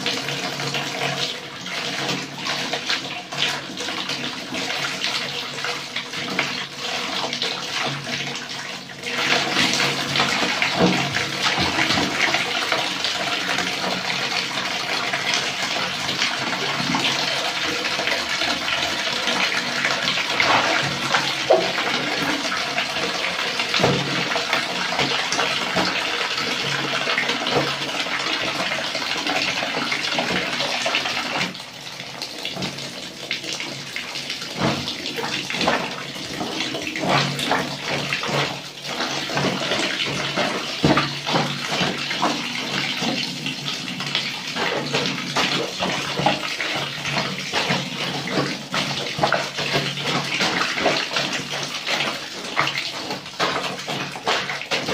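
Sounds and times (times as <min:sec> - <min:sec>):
sloshing of wet laundry: 0:00.0 - 0:54.9
tap water into plastic basin: 0:00.0 - 0:54.9.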